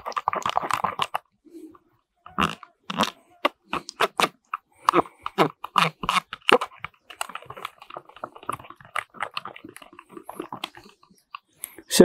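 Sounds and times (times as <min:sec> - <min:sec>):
spoon scraping plastic cup: 0:00.0 - 0:01.2, 0:02.3 - 0:11.5.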